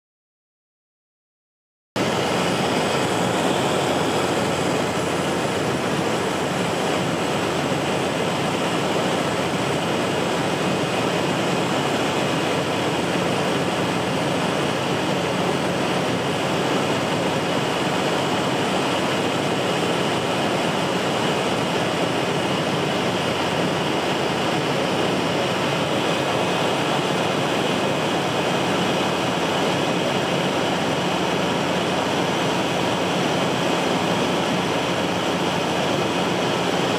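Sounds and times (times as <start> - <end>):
floatplane engine and propeller drone: 2.0 - 36.9.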